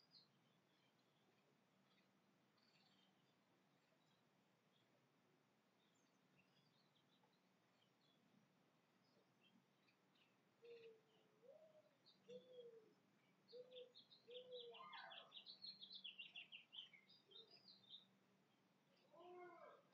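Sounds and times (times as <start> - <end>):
birds chirping and trilling: 0.0 - 5.0, 5.8 - 8.4, 9.0 - 19.9.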